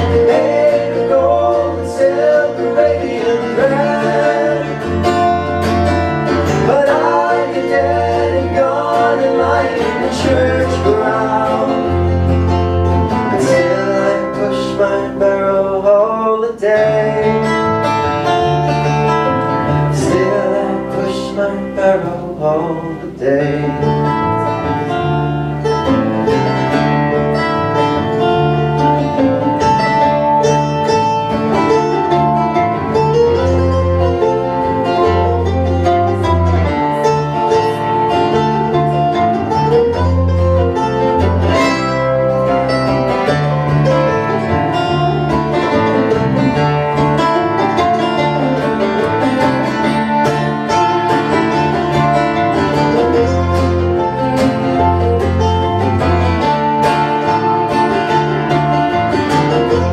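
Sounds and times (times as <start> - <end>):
acoustic guitar: 0.0 - 59.9
electric bass: 0.0 - 59.9
mandolin: 0.0 - 59.9.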